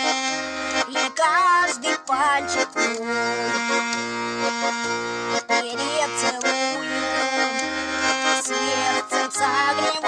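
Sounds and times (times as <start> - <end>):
button accordion playing: 0.0 - 10.0.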